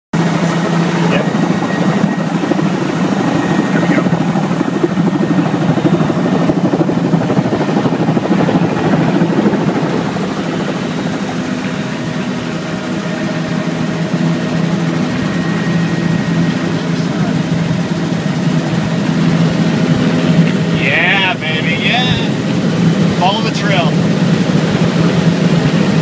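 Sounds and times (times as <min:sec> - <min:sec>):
helicopter engine hum: 0:00.2 - 0:26.0
helicopter rotor beat: 0:00.2 - 0:26.0.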